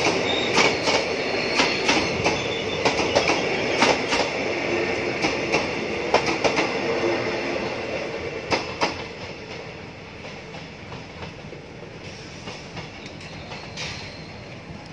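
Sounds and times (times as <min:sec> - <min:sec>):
train wheels clacking over rail joints: 0:00.0 - 0:06.8, 0:08.4 - 0:14.4
train rumbling: 0:00.0 - 0:14.9.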